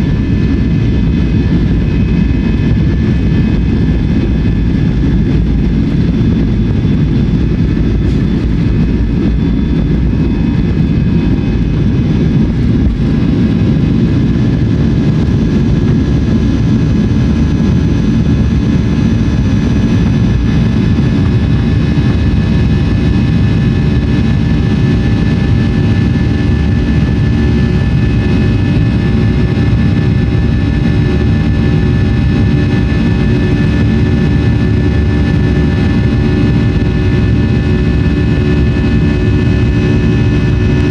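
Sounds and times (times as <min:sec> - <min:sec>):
high whining fan tones: 0:00.0 - 0:40.9
jet engines at takeoff thrust: 0:00.0 - 0:40.9.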